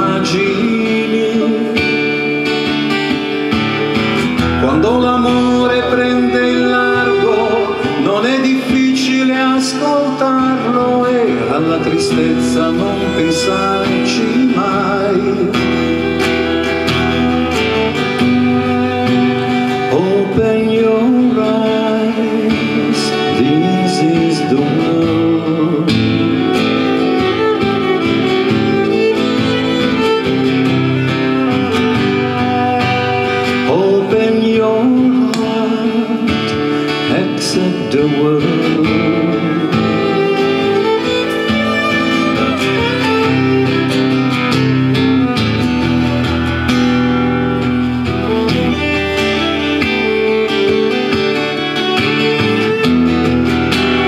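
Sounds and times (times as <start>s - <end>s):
acoustic guitar: 0.0s - 54.0s
violin melody: 0.0s - 54.0s.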